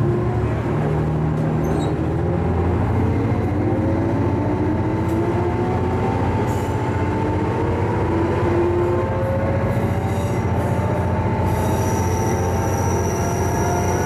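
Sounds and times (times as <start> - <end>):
diesel railcar engine: 0.0 - 14.0.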